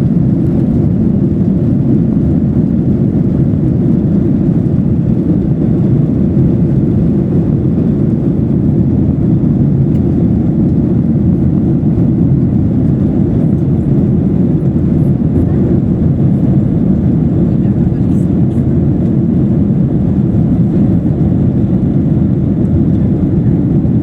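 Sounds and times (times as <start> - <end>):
airplane cabin engine hum: 0.0 - 24.0.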